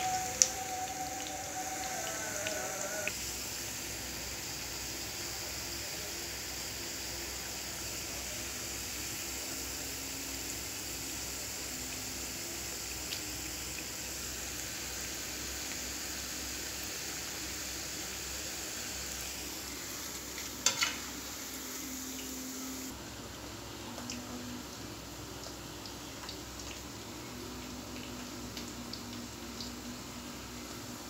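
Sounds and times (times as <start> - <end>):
fritters deep-frying in oil: 0.0 - 31.0.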